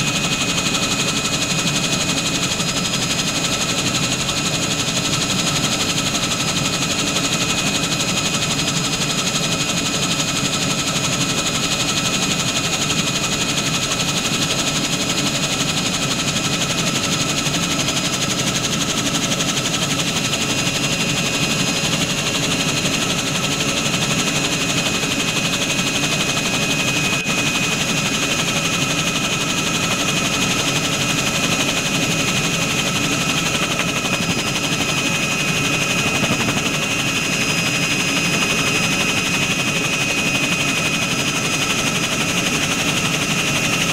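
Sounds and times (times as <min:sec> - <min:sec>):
helicopter engine and rotor chatter: 0:00.0 - 0:43.9.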